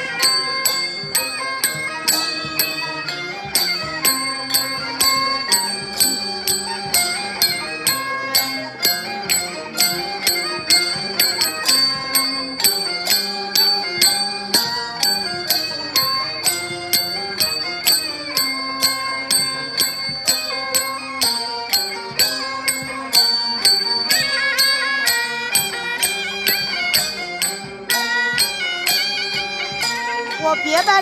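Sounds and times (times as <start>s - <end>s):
music with steady beat: 0.0s - 31.0s.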